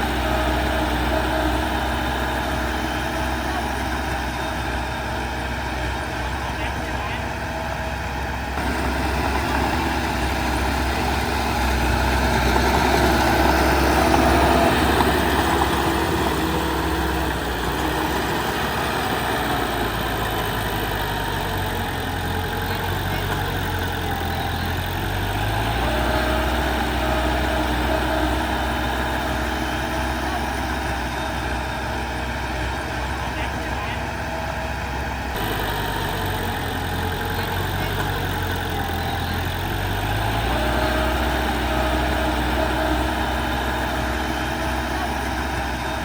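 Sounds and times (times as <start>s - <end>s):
heavy diesel engine running: 0.0s - 46.0s.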